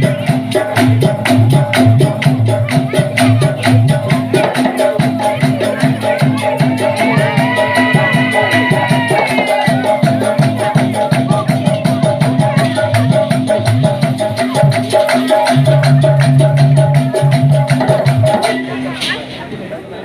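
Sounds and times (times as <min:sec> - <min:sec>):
held melodic line: 0:00.0 - 0:19.2
maracas shaking: 0:00.0 - 0:19.5
drums: 0:00.0 - 0:20.0.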